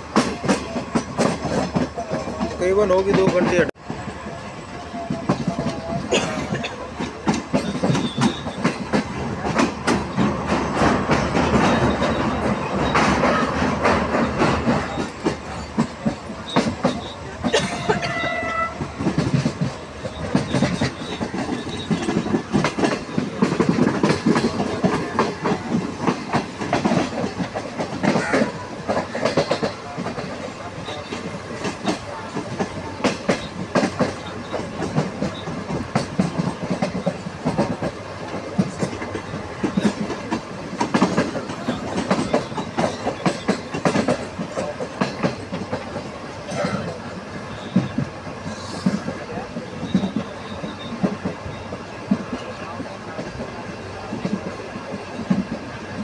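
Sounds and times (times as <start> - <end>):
train rushing noise: 0.0 - 56.0
wheels clattering over rail joints: 5.0 - 56.0.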